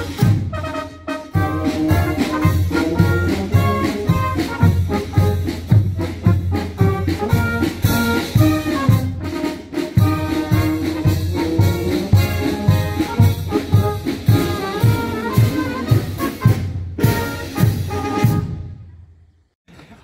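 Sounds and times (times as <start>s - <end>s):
brass band playing a march: 0.0s - 18.8s.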